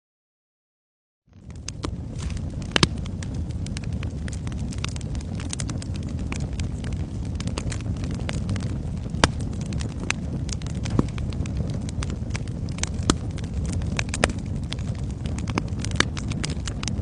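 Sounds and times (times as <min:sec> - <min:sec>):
wood fire crackling: 0:01.3 - 0:17.0.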